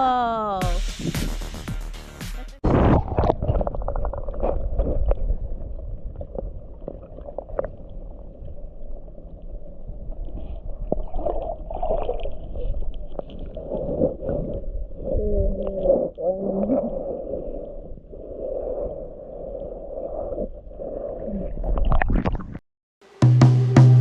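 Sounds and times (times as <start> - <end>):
low rumble: 2.4 - 22.0
muffled wavering sounds: 2.6 - 22.6.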